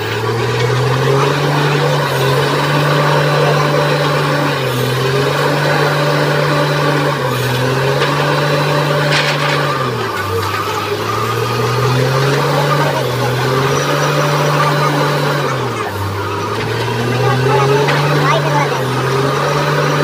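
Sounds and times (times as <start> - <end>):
drilling rig engine hum: 0.0 - 20.0.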